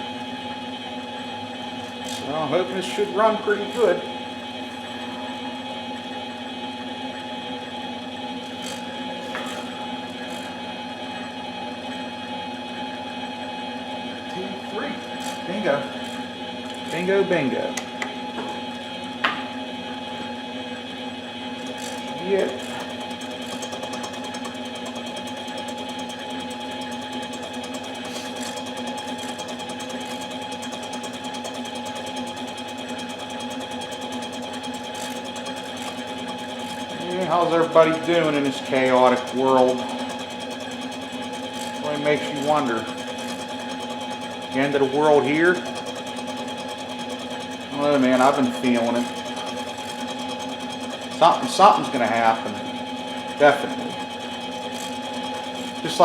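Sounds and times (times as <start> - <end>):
electric machine humming: 0.0 - 56.0.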